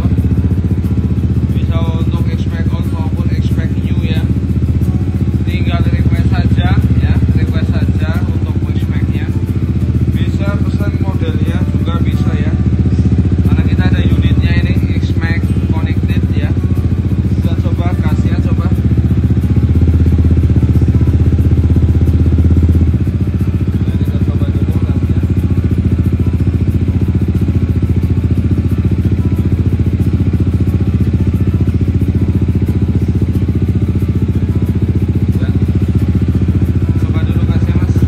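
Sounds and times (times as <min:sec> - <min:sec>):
scooter engine idling: 0:00.0 - 0:38.0.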